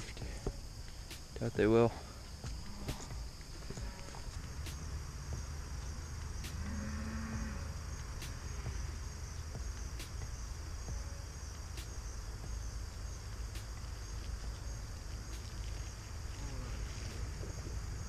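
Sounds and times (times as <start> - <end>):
crickets chirping: 0.0 - 18.0
steady low rumble: 0.0 - 18.0.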